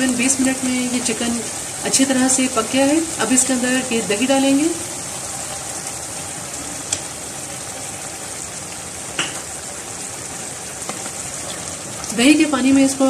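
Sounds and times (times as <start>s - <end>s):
pot sizzling and bubbling: 0.0s - 13.0s.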